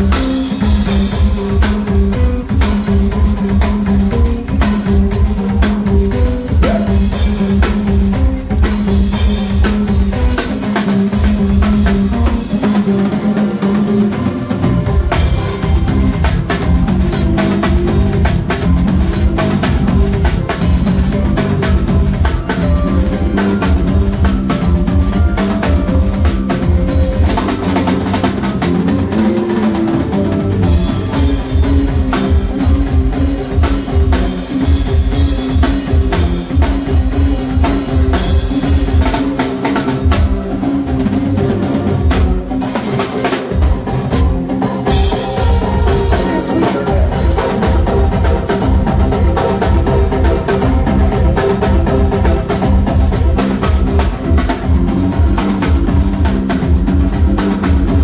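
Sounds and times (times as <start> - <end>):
bass line: 0.0 - 58.0
drum kit beat: 0.0 - 58.0
live band instrumental groove: 0.0 - 58.0.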